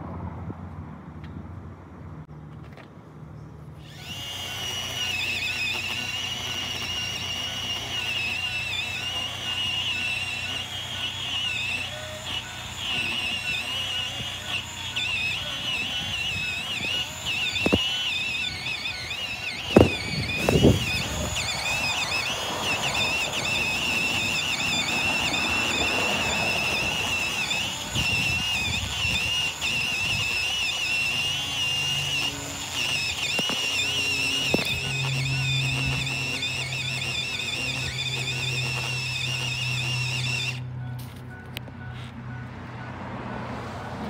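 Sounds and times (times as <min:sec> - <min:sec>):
saw blade rasping: 0:03.8 - 0:41.2
wavering high whistle tone: 0:03.8 - 0:42.0.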